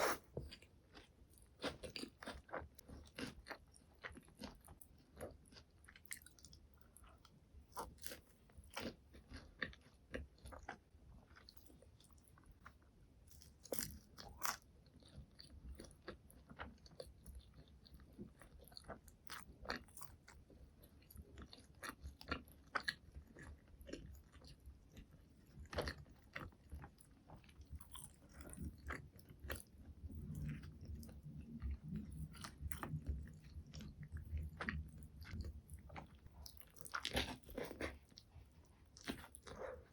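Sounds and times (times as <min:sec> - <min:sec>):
chewing with crunchy bites: 0:00.0 - 0:39.9.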